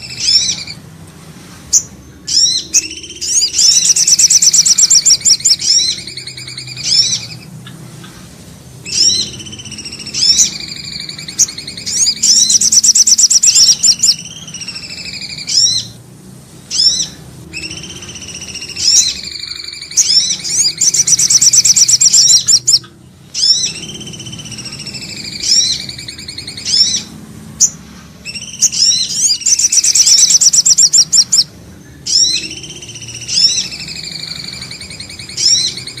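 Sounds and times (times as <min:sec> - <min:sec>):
rapid high bird trills: 0:00.0 - 0:00.9, 0:01.6 - 0:36.0.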